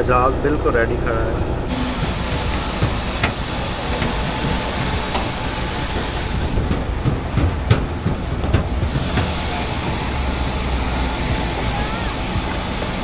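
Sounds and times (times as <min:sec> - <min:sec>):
jet aircraft rumble and whine: 0:00.0 - 0:13.0
footsteps on metal stairs: 0:01.7 - 0:13.0.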